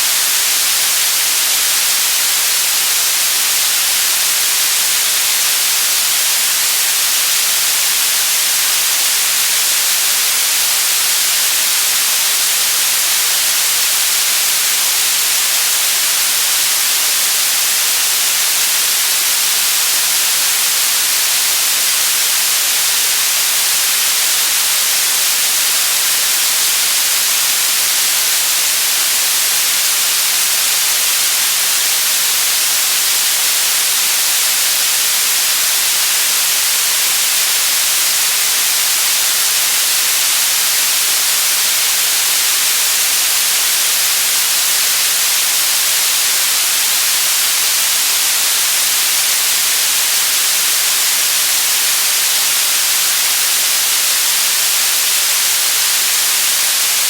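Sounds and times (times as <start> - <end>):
electronic white noise hiss: 0.0 - 57.0.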